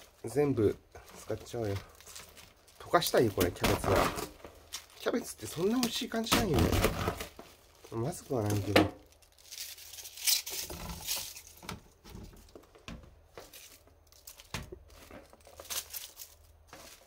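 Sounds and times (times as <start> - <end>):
cabbage leaves rustling: 0.0 - 11.6, 13.4 - 17.0.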